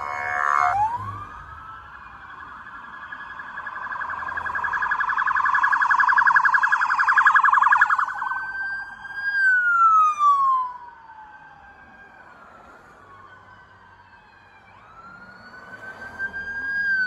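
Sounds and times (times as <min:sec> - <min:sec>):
faint distant siren: 0:00.0 - 0:17.0
police siren passing: 0:00.0 - 0:17.0.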